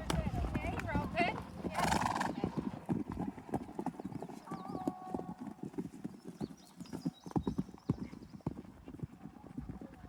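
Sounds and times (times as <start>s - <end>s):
horse hooves clip-clopping: 0.0s - 10.0s.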